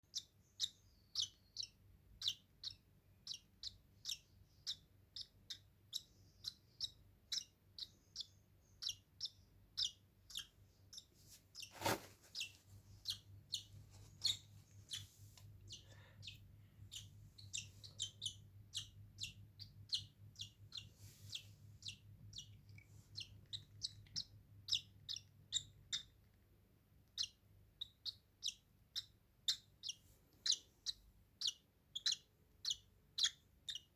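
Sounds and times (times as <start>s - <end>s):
baby bird chirping: 0.1s - 26.4s, 27.0s - 33.9s.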